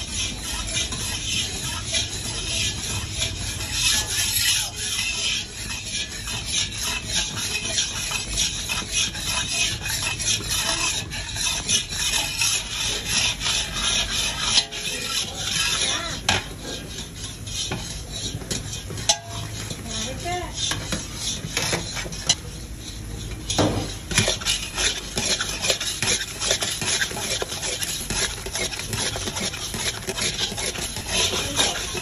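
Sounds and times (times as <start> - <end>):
metal spatula scraping pot: 0.0 - 32.0.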